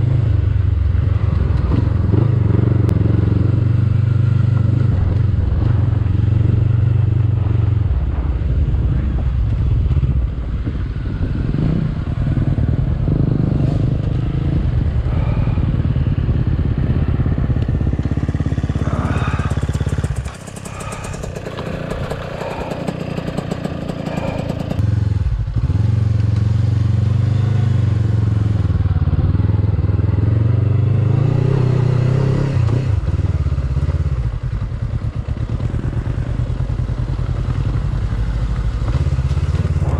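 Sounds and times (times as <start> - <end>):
dirt bike engine close by: 0.0 - 39.9
motorcycle engine at low revs: 0.0 - 39.9.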